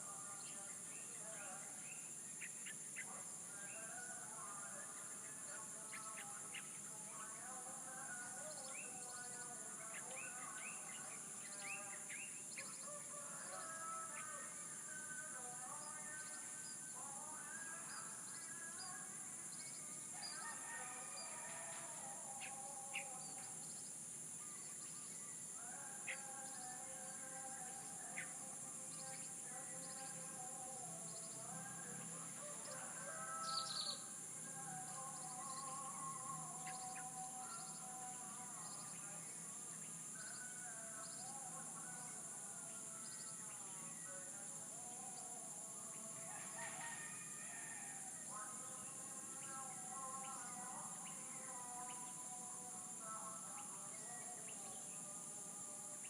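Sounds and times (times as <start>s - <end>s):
birds chirping and singing: 0.0s - 56.0s.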